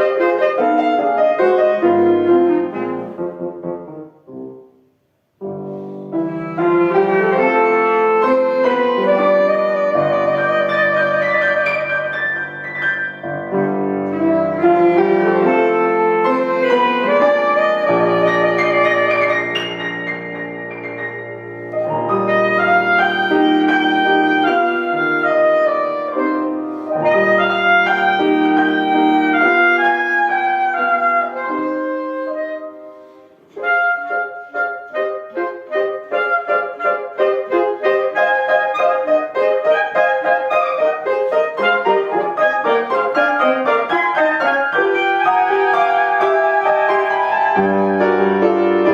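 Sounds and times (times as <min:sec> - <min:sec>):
clarinet-like melody: 0:00.0 - 0:48.9
piano accompaniment: 0:00.0 - 0:48.9.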